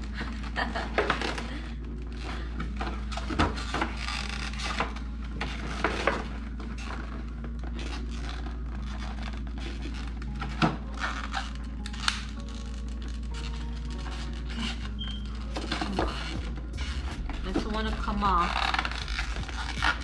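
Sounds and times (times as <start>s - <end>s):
steady low hum: 0.0s - 20.0s
packaging handled and rubbed: 2.1s - 20.0s.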